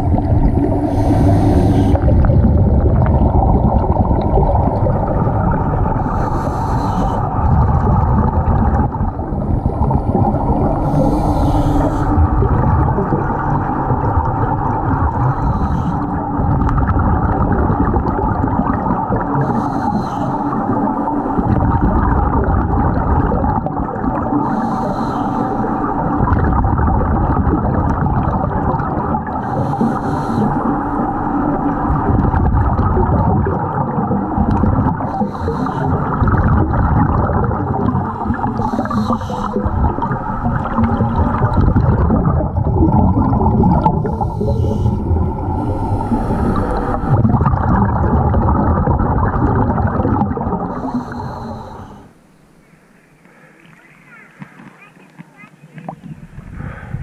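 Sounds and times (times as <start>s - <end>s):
scuba exhaust bubbles: 0.0s - 57.0s
underwater rumble and hiss: 0.0s - 57.0s.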